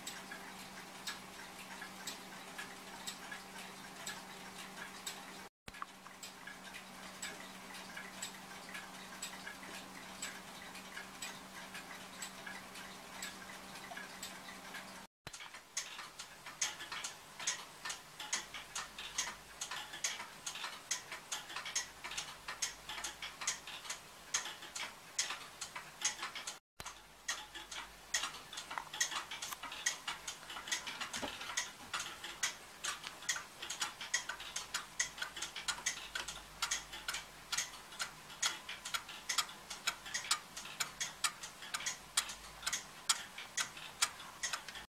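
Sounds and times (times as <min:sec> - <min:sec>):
wall clock ticking: 0:00.0 - 0:44.9.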